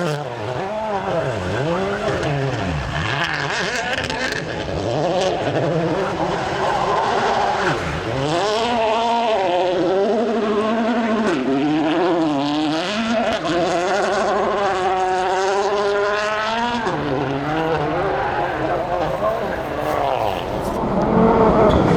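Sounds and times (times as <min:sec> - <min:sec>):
rally car engine at high revs: 0:00.0 - 0:21.9.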